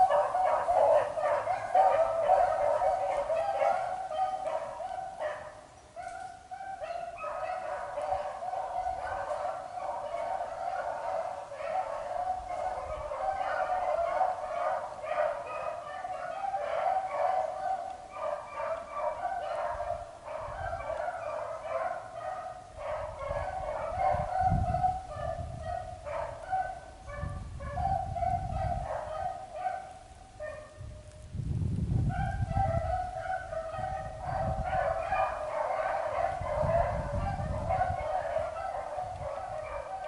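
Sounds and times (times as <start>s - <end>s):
dogs baying: 0.0s - 30.8s, 32.1s - 40.0s.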